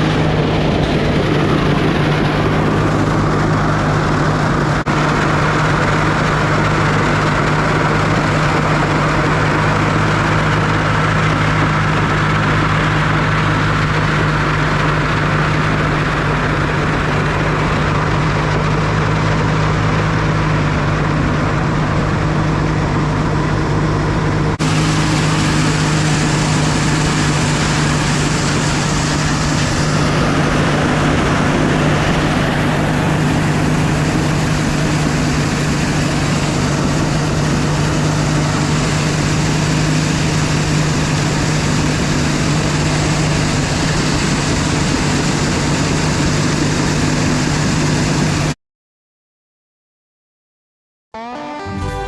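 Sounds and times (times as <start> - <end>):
heavy farm machinery humming: 0.0 - 48.5.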